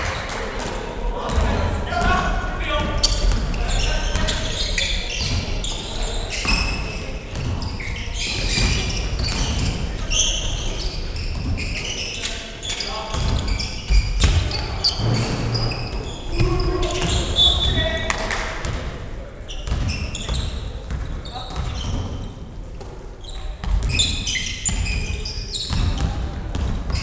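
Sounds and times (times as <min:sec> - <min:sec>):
sneakers squeaking: 0:01.2 - 0:18.8, 0:19.4 - 0:27.0.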